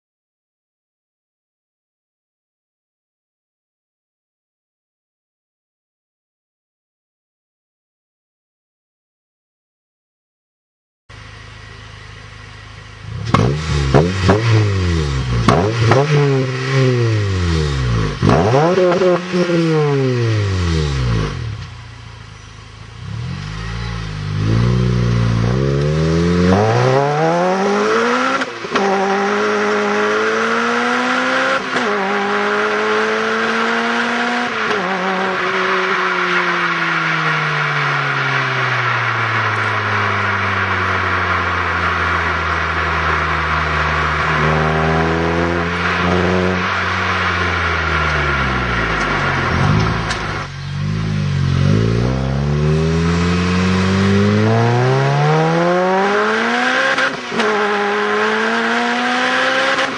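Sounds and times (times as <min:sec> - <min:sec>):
car engine accelerating: 0:11.1 - 0:59.9.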